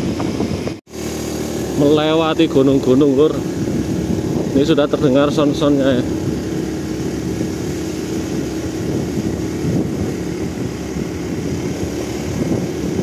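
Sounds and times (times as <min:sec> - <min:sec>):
motorcycle running: 0:00.0 - 0:13.0
wind on microphone: 0:00.0 - 0:13.0.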